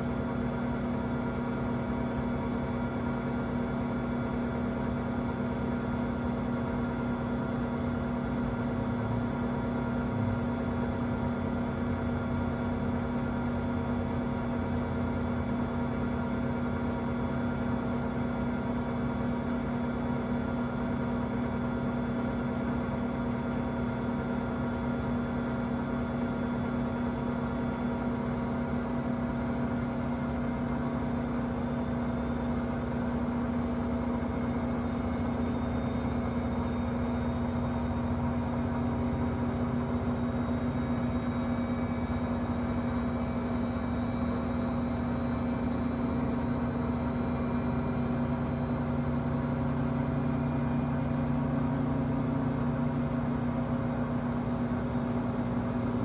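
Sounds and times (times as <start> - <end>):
washing machine buzzing hum: 0.0 - 56.0.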